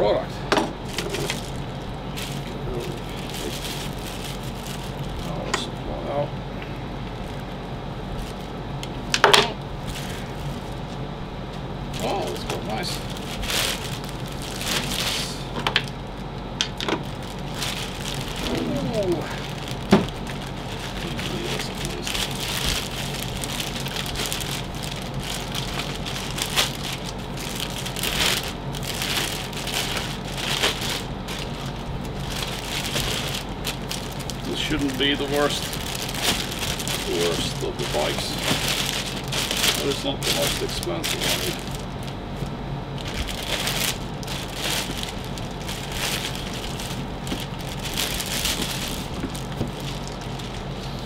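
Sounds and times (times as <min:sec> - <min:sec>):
plastic bag crinkling: 0:00.8 - 0:05.9, 0:07.1 - 0:08.9, 0:09.8 - 0:11.0, 0:11.9 - 0:50.8.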